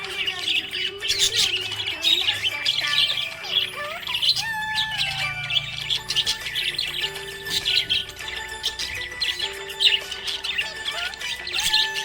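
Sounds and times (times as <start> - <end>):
budgies chirping and warbling: 0.0 - 12.0.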